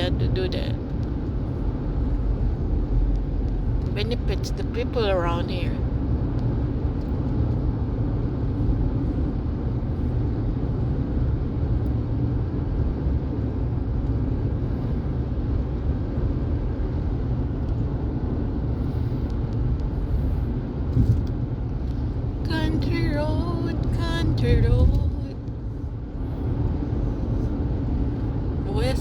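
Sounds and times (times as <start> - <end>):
car road noise rumble: 0.0 - 29.0.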